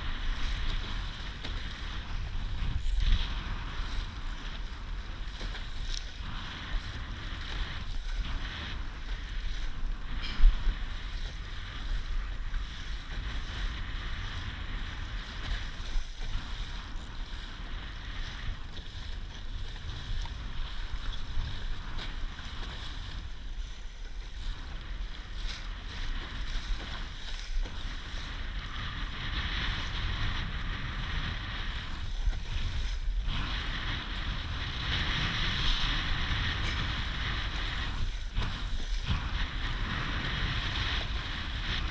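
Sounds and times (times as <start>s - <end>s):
water rushing along hull: 0.0s - 41.9s
wind buffeting microphone: 0.0s - 41.9s.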